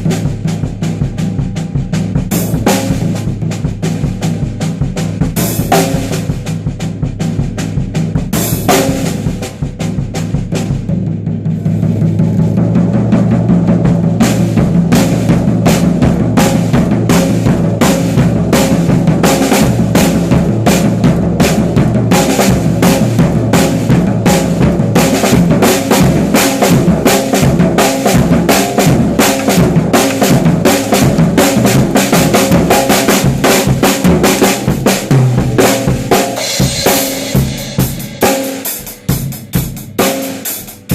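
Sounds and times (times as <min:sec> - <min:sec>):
drum kit beat with cymbals: 0:00.0 - 0:40.9.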